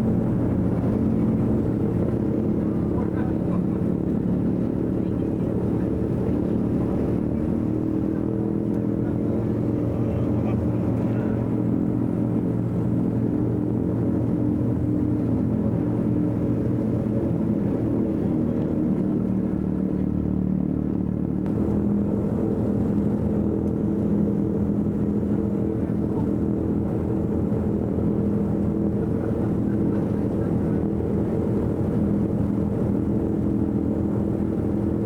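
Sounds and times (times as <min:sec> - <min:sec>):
aircraft piston engines running: 0:00.0 - 0:35.0.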